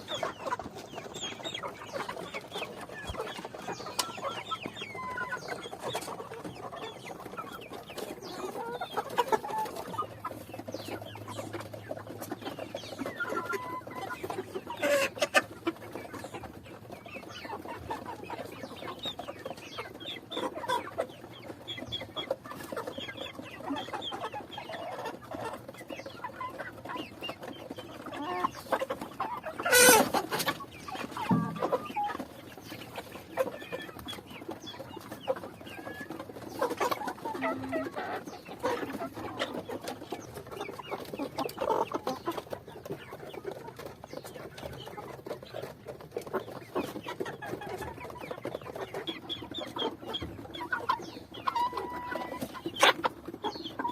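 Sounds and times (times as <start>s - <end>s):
chickens clucking: 0.0s - 53.9s.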